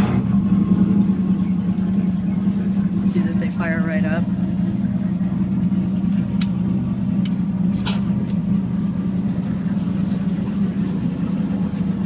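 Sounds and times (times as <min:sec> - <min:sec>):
boat motors idling: 0:00.0 - 0:12.0.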